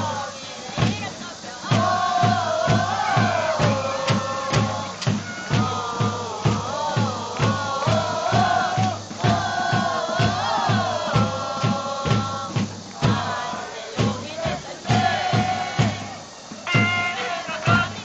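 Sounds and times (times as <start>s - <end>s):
bass drum beat: 0.0s - 18.0s
crowd chanting in unison: 0.0s - 18.0s.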